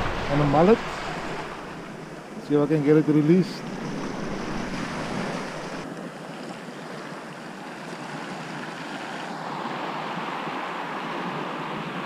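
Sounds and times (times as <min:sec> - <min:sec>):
sea surf washing on shore: 0:00.0 - 0:12.0.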